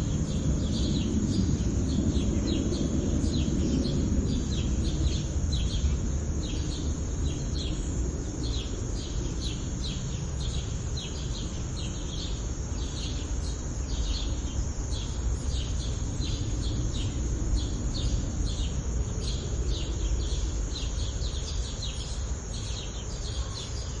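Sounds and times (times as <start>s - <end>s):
low background rumble: 0.0s - 23.9s
sparrows chirping: 0.0s - 24.0s.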